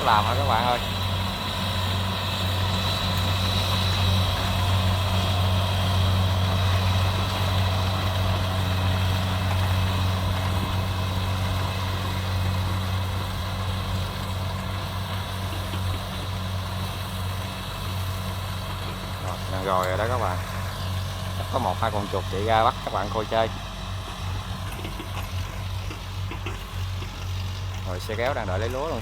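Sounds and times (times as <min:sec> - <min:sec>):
combine harvester engine hum: 0:00.0 - 0:29.0.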